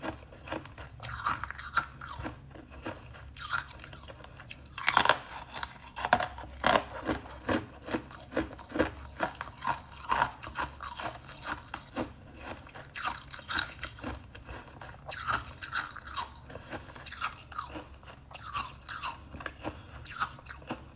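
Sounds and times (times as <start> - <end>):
person chewing crisp crackers: 0.0 - 20.9.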